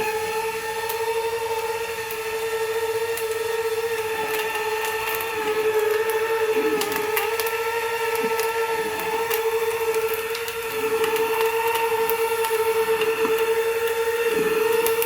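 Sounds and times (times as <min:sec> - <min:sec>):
vacuum motor high whine: 0:00.0 - 0:15.0.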